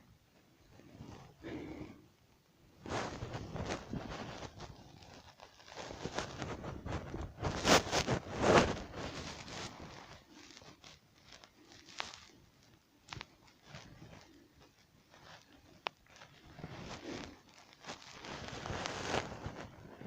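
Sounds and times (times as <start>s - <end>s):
clothing and gear rustling: 0.2s - 20.0s
footsteps: 2.8s - 20.0s.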